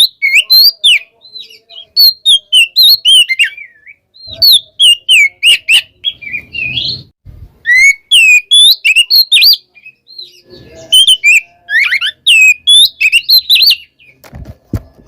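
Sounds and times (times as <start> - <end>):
bird singing whistled song: 0.0 - 14.2.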